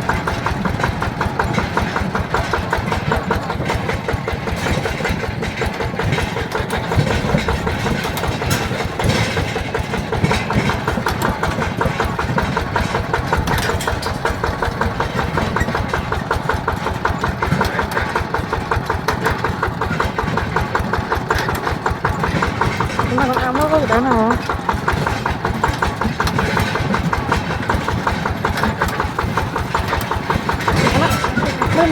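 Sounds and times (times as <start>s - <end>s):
diesel engine chugging: 0.0s - 31.9s.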